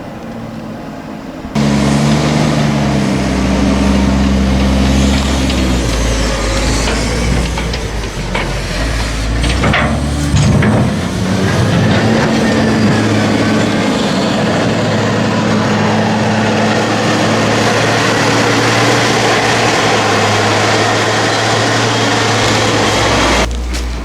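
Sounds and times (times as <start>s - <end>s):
diesel engine running steadily: 0.0s - 24.0s.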